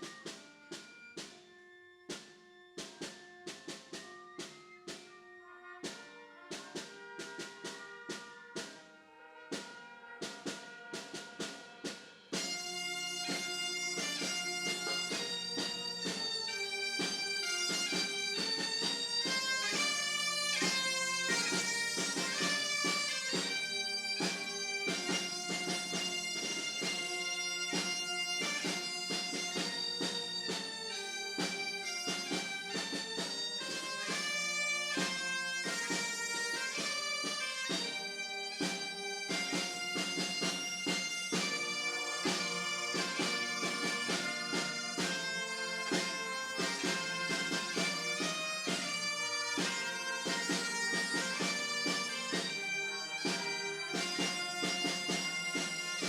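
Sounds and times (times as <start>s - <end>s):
bagpipes playing: 0.0s - 56.0s.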